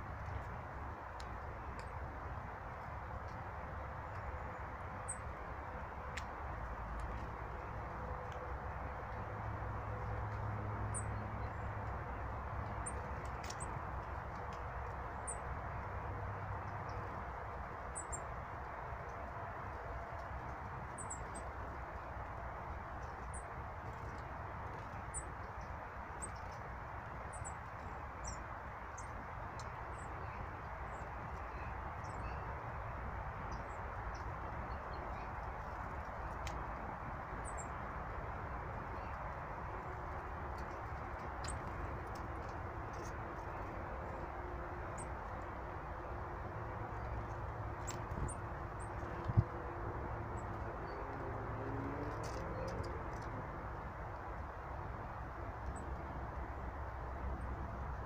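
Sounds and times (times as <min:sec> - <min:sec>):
low rushing background noise: 0:00.0 - 0:58.0.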